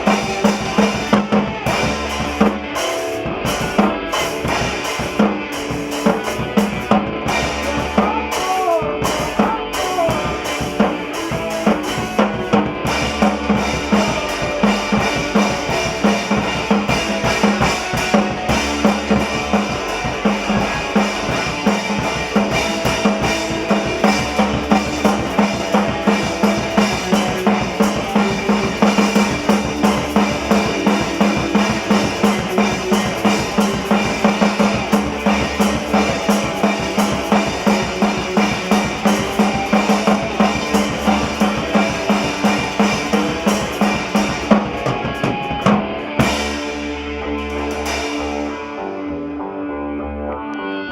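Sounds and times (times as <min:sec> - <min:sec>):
drum kit fast beat: 0:00.0 - 0:48.7
band playing live: 0:00.0 - 0:50.9.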